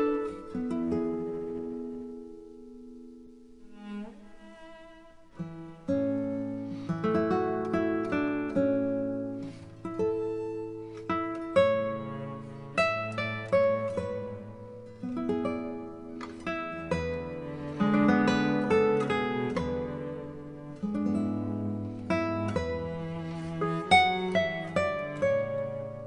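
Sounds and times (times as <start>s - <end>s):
plucked acoustic guitar melody: 0.0s - 26.0s.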